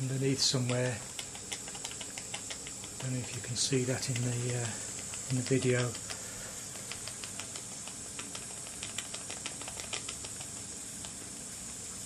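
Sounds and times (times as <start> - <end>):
light irregular clicks: 0.6 - 11.2.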